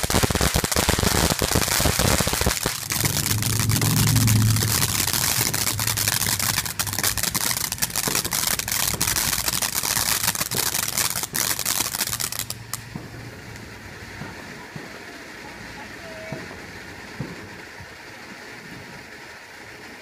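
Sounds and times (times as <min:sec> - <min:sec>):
firework hissing crackle with pops: 0:00.0 - 0:20.0.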